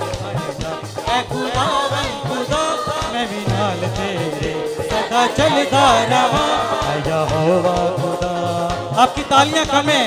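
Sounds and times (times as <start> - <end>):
band playing: 0.0 - 10.0
man singing into a microphone: 0.0 - 10.0.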